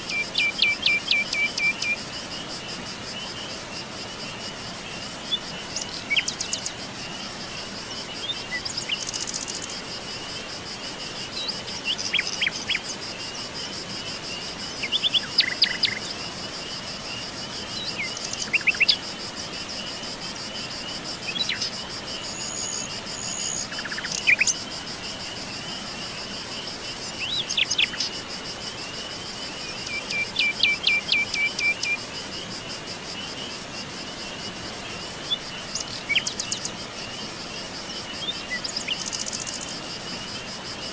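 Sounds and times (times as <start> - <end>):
high-pitched insect trill: 0.0 - 40.9.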